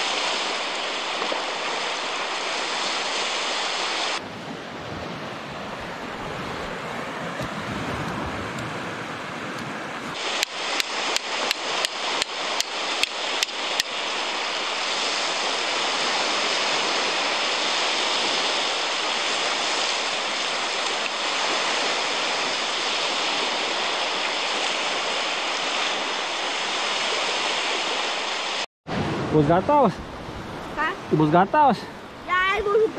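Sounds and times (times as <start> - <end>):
wind on microphone: 0.0 - 31.2
surf washing onto beach: 0.0 - 32.9.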